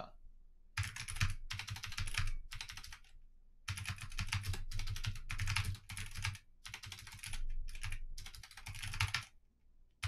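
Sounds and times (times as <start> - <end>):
rapid keyboard typing: 0.8 - 9.4.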